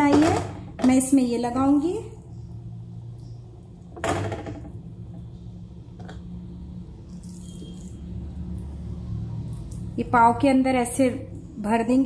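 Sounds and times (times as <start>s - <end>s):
steady low hum: 0.2s - 11.7s.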